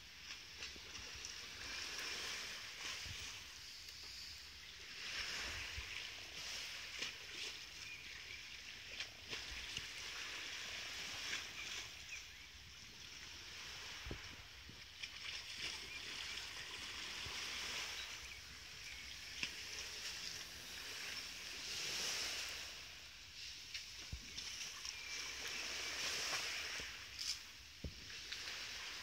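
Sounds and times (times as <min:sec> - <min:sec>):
small waves lapping at shore: 0:00.0 - 0:29.0
steady outdoor hiss: 0:00.0 - 0:29.0.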